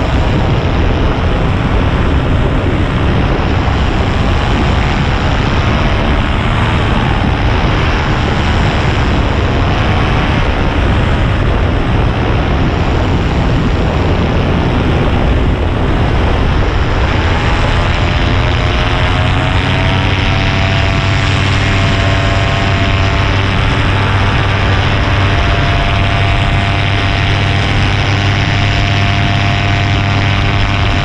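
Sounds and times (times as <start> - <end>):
paramotor engine droning: 0.0 - 31.0.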